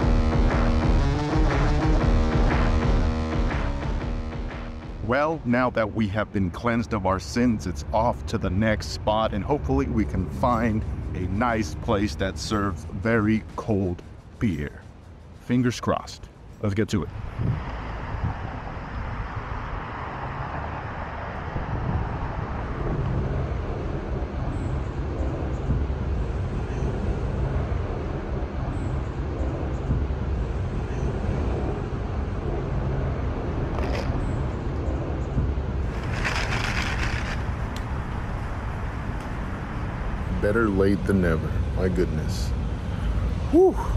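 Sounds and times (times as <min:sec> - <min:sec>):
road traffic rumble: 0:00.0 - 0:43.9.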